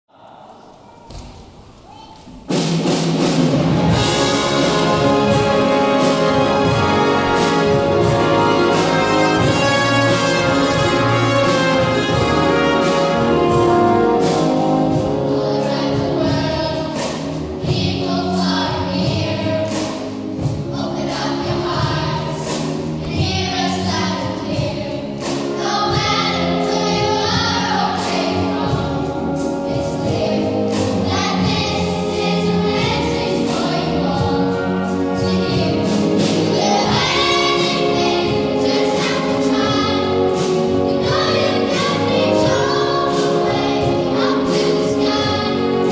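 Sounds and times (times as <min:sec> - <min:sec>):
children's choir singing: 0:00.1 - 0:45.9
symphony orchestra: 0:02.0 - 0:45.9.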